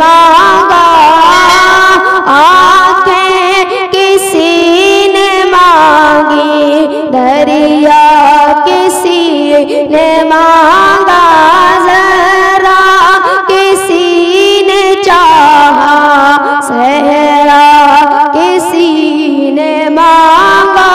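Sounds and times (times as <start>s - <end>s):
boy singing devotional song: 0.0s - 20.9s.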